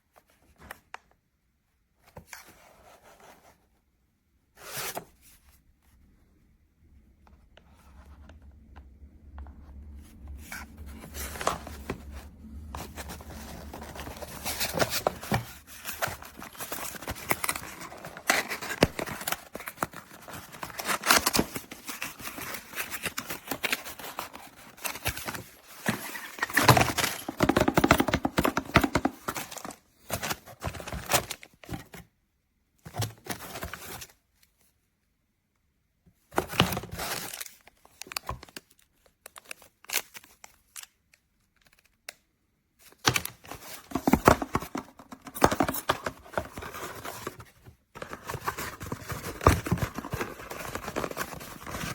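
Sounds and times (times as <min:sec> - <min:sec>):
rustling and crinkling handling: 0:07.3 - 0:32.2, 0:32.8 - 0:34.9, 0:36.1 - 0:42.2, 0:42.8 - 0:51.9.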